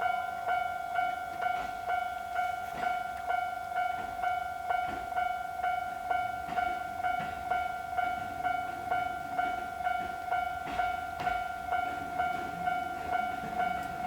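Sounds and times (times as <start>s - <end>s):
level-crossing warning bell ringing: 0.0s - 14.0s.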